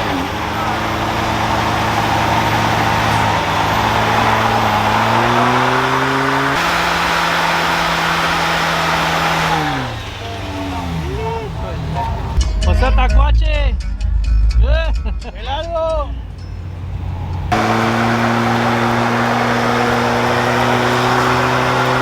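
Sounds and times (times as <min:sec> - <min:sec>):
spinning tyres hissing: 0:00.0 - 0:13.0, 0:16.1 - 0:22.0
truck engine at high revs: 0:00.0 - 0:13.0, 0:16.1 - 0:22.0.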